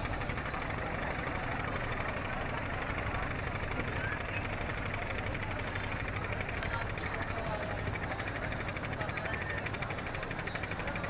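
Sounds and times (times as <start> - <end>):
boat engine knocking: 0.0 - 11.0.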